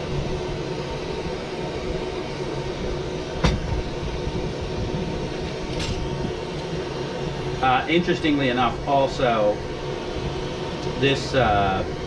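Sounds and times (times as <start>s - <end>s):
torch flame burning: 0.0s - 12.0s.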